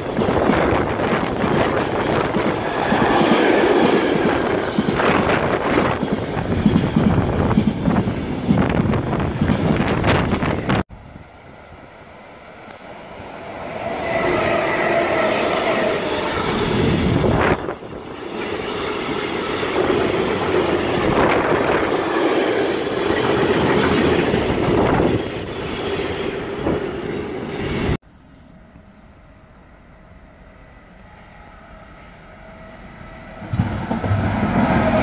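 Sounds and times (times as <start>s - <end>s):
distant train: 0.0s - 35.0s
electric locomotive passing: 0.0s - 35.0s.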